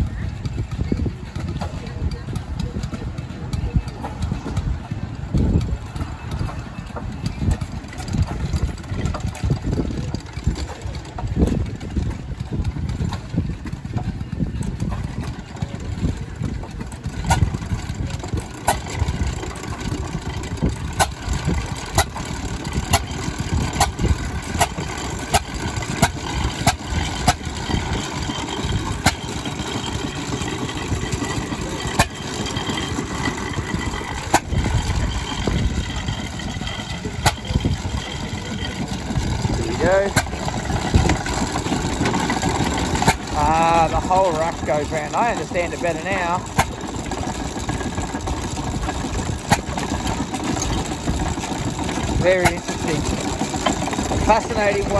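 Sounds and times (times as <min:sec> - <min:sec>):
hay press clacks: 0:00.0 - 0:54.9
stationary engine chugging: 0:00.0 - 0:54.9.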